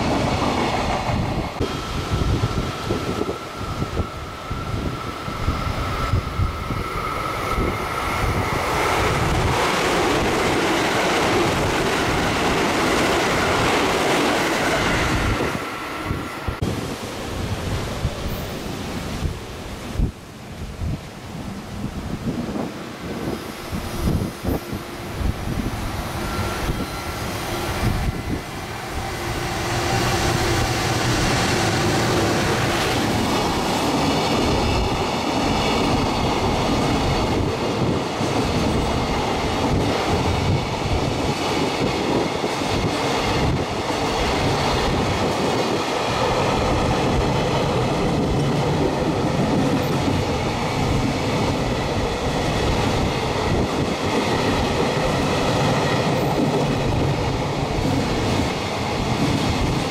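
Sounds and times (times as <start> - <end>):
train wagons running past: 0.0 - 19.2, 21.4 - 59.9
electric locomotive passing: 0.0 - 59.9.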